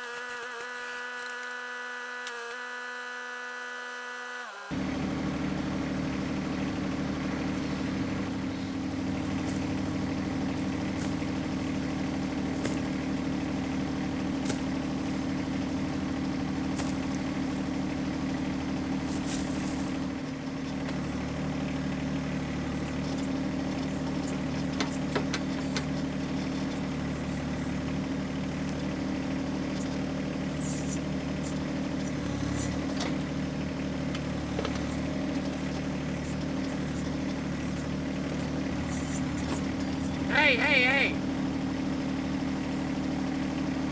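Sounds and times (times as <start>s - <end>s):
tractor diesel engine running: 4.7s - 43.9s.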